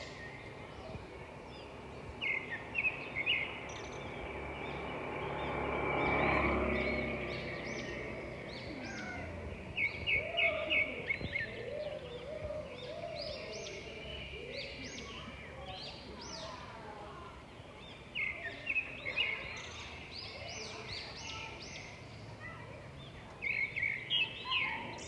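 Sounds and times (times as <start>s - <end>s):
birds singing and chirping: 0.0s - 25.0s.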